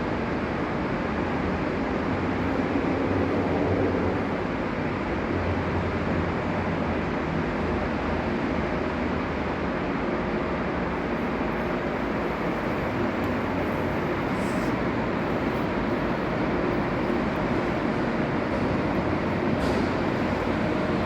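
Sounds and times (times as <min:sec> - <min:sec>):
train rumbling in station: 0:00.0 - 0:21.0.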